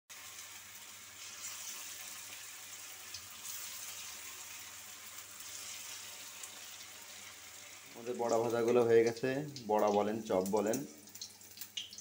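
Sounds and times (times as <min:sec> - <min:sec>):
patties deep-frying in oil: 0:00.1 - 0:12.0.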